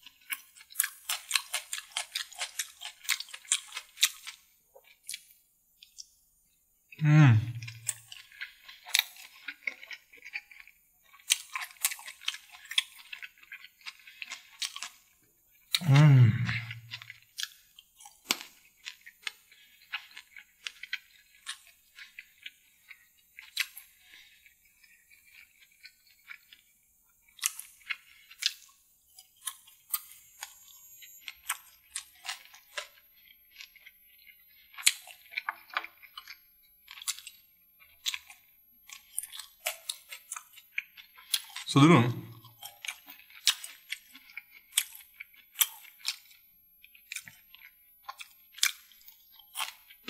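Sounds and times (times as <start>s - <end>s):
wet chewing and lip smacks: 0.0s - 6.2s, 7.6s - 50.0s.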